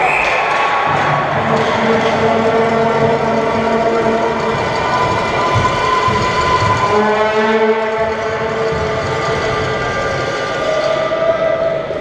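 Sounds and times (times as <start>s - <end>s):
ice rink crowd din: 0.0s - 12.0s
sustained horn-like tones: 0.9s - 12.0s.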